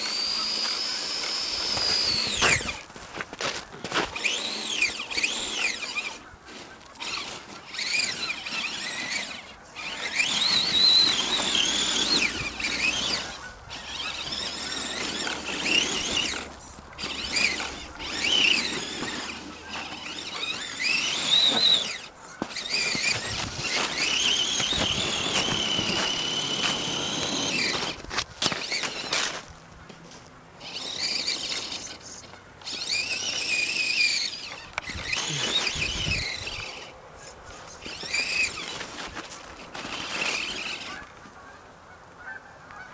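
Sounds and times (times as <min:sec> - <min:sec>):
electric motor whining: 0:00.0 - 0:03.0, 0:03.8 - 0:29.8, 0:30.6 - 0:37.0, 0:37.7 - 0:41.2.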